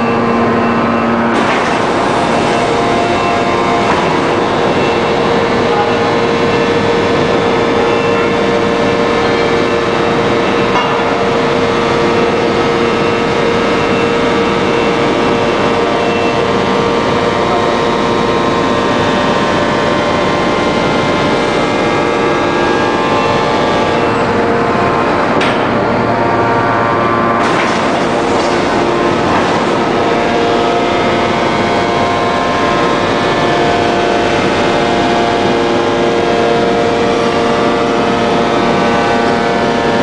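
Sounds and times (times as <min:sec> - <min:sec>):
forging press machine drone: 0:00.0 - 0:40.0.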